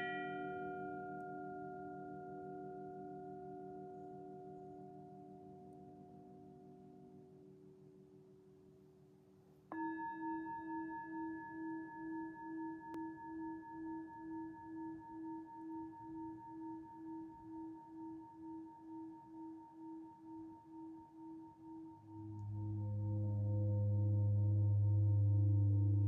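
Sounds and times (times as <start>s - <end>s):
singing bowl ringing: 0.0s - 4.9s, 9.7s - 26.0s.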